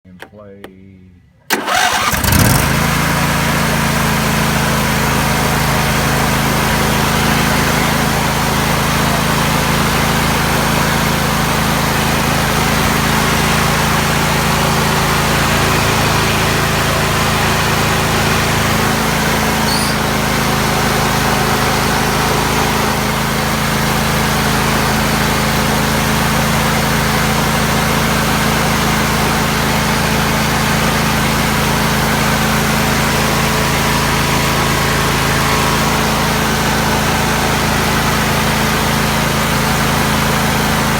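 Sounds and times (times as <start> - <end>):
mower engine running: 1.5 - 40.9.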